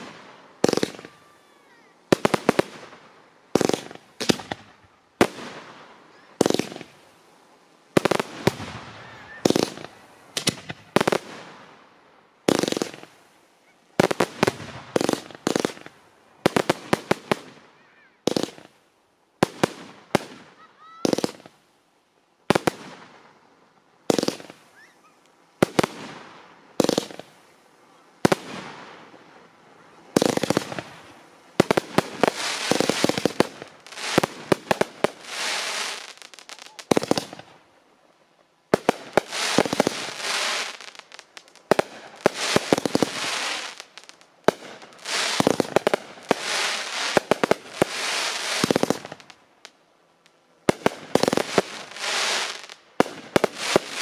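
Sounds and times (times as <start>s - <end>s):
fireworks bangs: 0.0s - 7.0s, 7.9s - 11.7s, 12.5s - 13.2s, 13.9s - 18.7s, 19.4s - 21.6s, 24.1s - 24.8s, 25.6s - 37.6s, 38.7s - 49.4s, 50.6s - 54.0s
fireworks popping and crackling: 0.0s - 7.0s, 7.9s - 11.8s, 12.4s - 13.2s, 13.9s - 18.8s, 19.4s - 21.6s, 22.5s - 23.3s, 24.0s - 24.8s, 25.6s - 37.6s, 38.7s - 54.0s.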